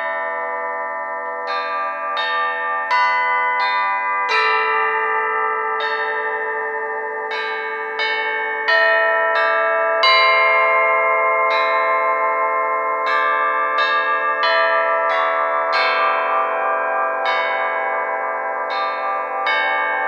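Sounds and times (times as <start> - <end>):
plate bells struck: 0.0 - 20.0.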